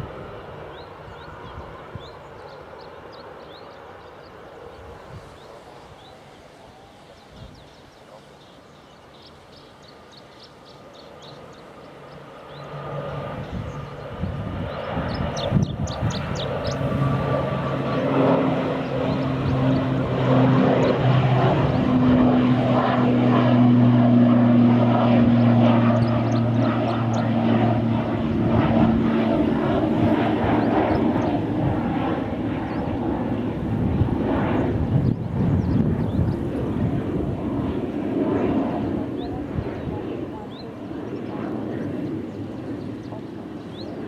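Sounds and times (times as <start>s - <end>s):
airliner engines droning: 0.0s - 44.0s.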